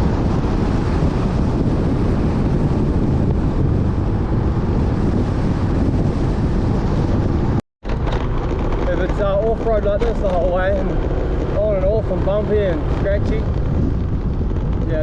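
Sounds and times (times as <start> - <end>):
motorbike engine: 0.0 - 15.0
road noise: 0.0 - 15.0
wind rushing over microphone: 0.0 - 15.0.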